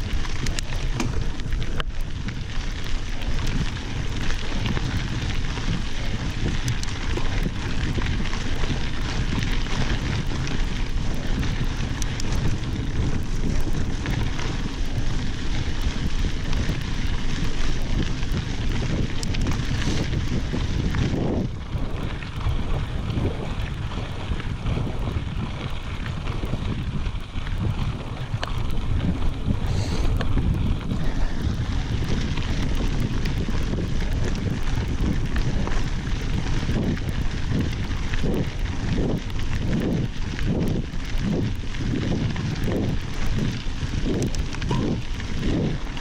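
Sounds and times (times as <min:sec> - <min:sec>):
tyres on gravel: 0:00.0 - 0:24.6, 0:25.2 - 0:46.0
bike clicks and rattles: 0:00.0 - 0:46.0
wind buffeting microphone: 0:00.0 - 0:46.0.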